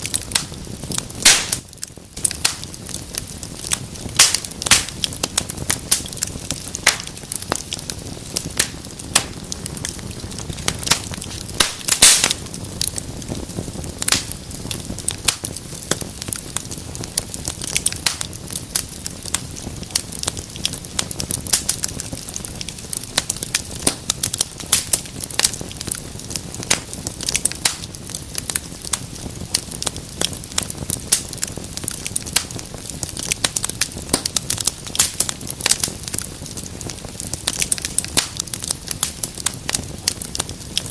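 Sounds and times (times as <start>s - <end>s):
hiss of burning: 0.0s - 40.9s
wood fire crackling: 0.0s - 40.9s.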